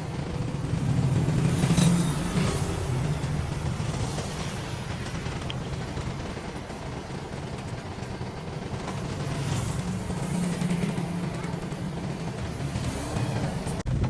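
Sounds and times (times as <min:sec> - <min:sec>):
heavy machinery engine droning: 0:00.0 - 0:14.0.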